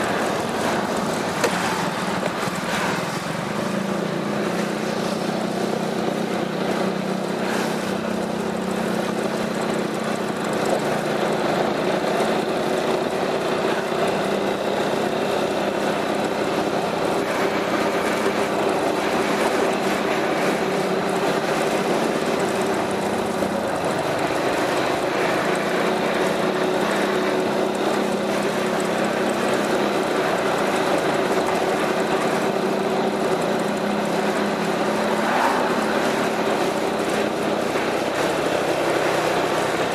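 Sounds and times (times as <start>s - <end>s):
scooter engine running steadily: 0.0s - 39.9s.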